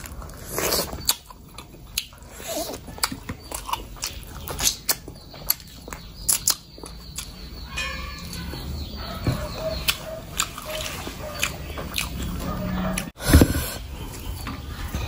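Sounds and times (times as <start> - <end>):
wet chewing: 0.0 - 13.2.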